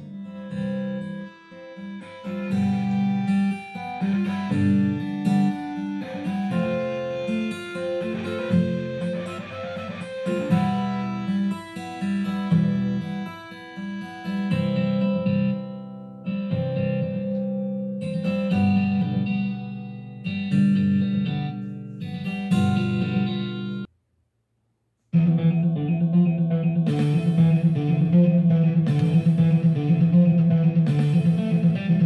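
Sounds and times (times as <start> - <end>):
guitar instrumental music from speaker: 0.0 - 23.9, 25.2 - 32.0.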